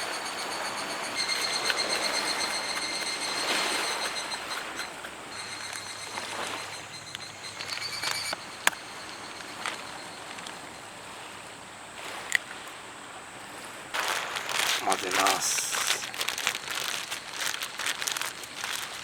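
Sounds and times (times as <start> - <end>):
small waves washing on shore: 0.0 - 19.0.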